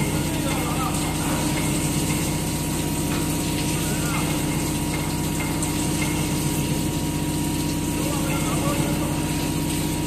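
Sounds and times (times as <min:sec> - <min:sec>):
coolant jet hissing and splashing: 0:00.0 - 0:10.0.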